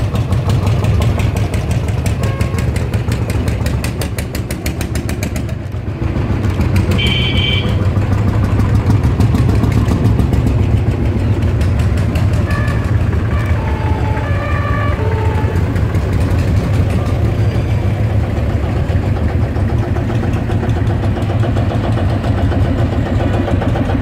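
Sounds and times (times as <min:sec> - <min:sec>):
diesel tractor engine running: 0:00.0 - 0:24.0
tractor engine thumping: 0:00.0 - 0:24.0.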